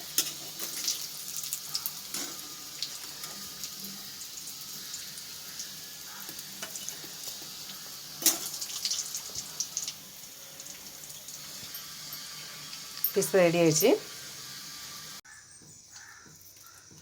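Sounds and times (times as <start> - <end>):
fish sizzling in oil: 0.0 - 15.3.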